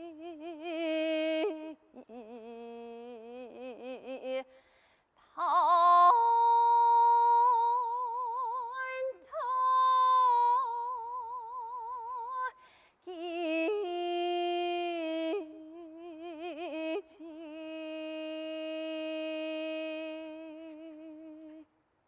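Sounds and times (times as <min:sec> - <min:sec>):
woman singing with vibrato: 0:00.0 - 0:04.5, 0:05.3 - 0:21.6.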